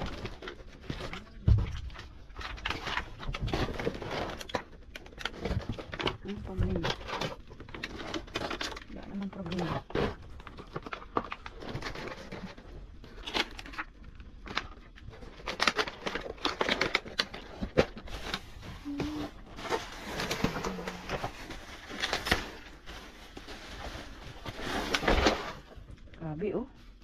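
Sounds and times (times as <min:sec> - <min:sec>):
plastic containers and boxes handled: 0:00.0 - 0:27.0.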